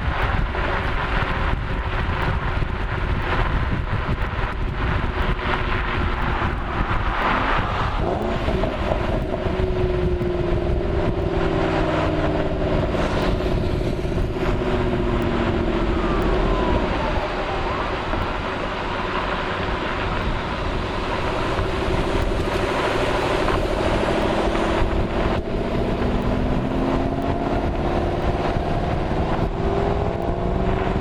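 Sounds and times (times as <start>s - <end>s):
car engine rumbling: 0.0s - 31.0s
exhaust pops: 0.0s - 31.0s.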